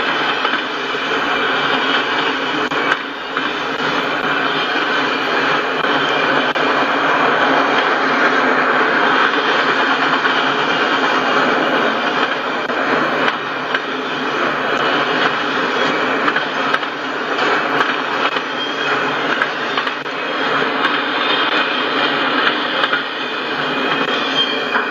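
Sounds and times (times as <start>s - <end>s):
freight cars clattering on rails: 0.0s - 24.9s.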